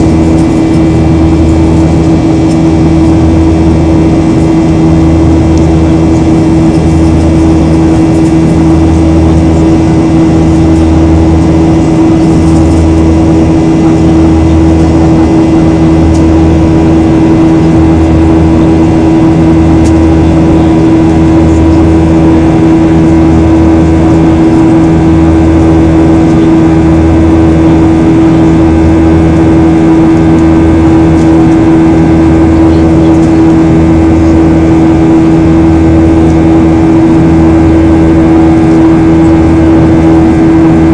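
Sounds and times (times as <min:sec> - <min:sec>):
jet engines in cabin: 0:00.0 - 0:40.9
low pulsing hum: 0:00.0 - 0:40.9.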